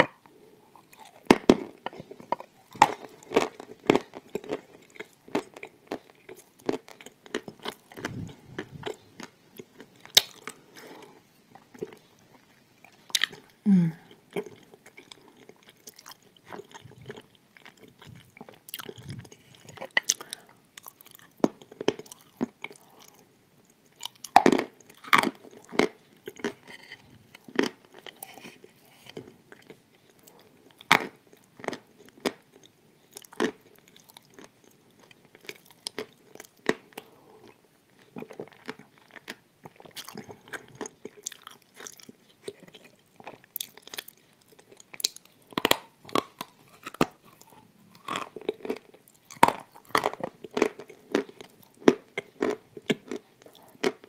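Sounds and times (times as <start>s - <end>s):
crunchy chewing: 0.0s - 54.0s.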